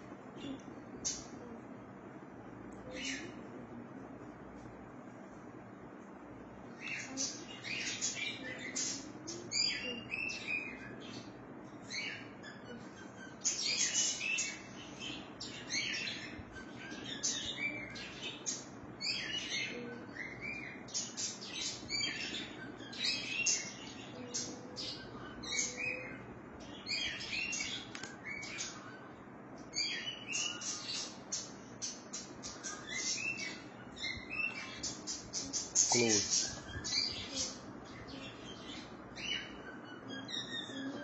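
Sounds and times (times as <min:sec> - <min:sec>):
birds chirping: 0:00.0 - 0:03.7, 0:06.3 - 0:41.0.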